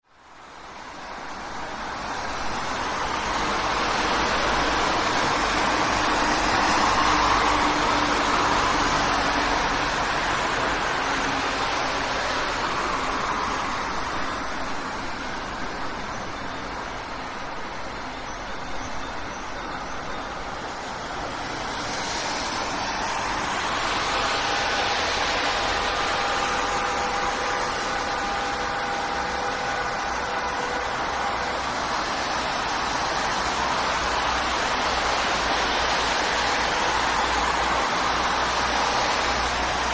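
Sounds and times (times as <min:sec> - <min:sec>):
city street traffic: 0:00.0 - 0:39.9
passing vehicles rushing: 0:01.8 - 0:18.2, 0:20.2 - 0:39.9.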